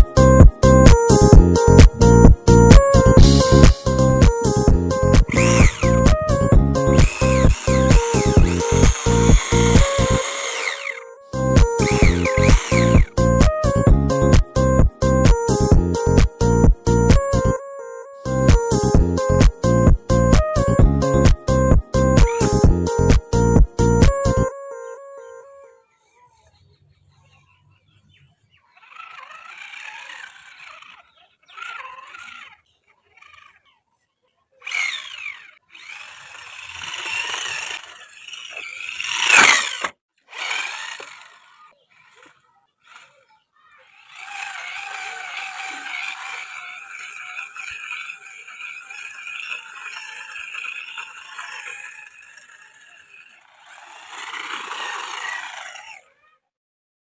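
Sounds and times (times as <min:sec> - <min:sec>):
electric motor whining: 0:00.0 - 0:14.4, 0:18.3 - 0:24.5, 0:28.8 - 0:33.5, 0:34.6 - 0:43.2, 0:43.8 - 0:56.2.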